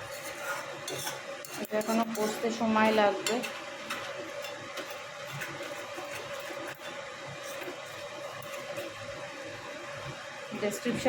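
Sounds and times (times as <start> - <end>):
gas flame hum: 0.0 - 11.0
gravy frying in a pan: 0.0 - 11.0.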